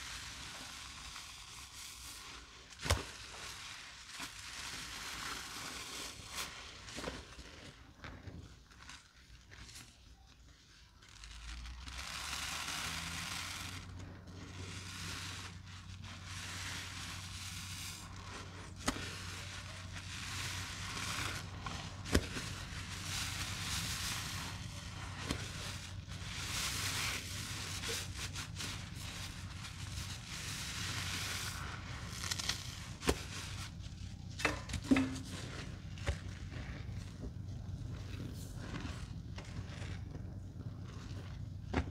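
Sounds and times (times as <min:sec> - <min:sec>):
sponges crackling and scraping: 0:00.0 - 0:41.9.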